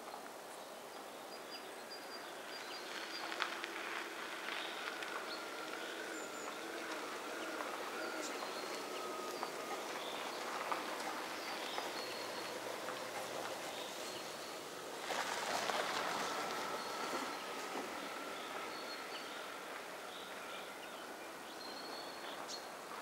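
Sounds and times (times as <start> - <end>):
rustling hiss: 0.0 - 23.0
small birds calling: 1.0 - 22.8
distant hum: 3.2 - 22.7.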